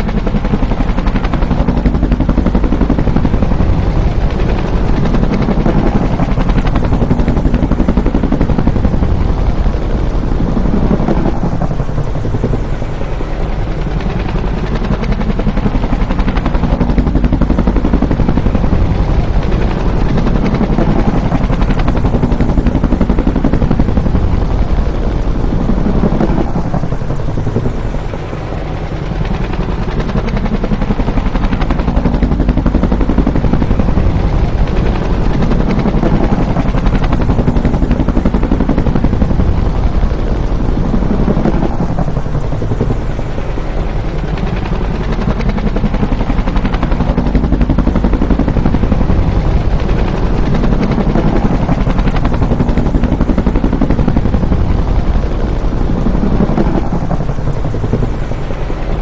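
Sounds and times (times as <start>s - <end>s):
helicopter flying by: 0.0s - 59.0s.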